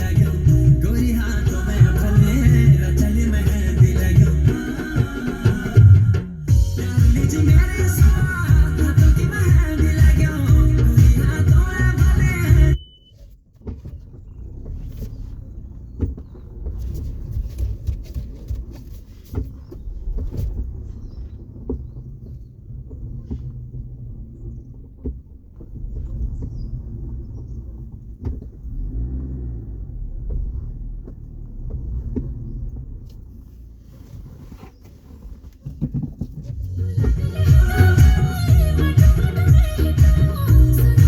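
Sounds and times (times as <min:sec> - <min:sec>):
low uneven rumble: 0:00.0 - 0:41.0.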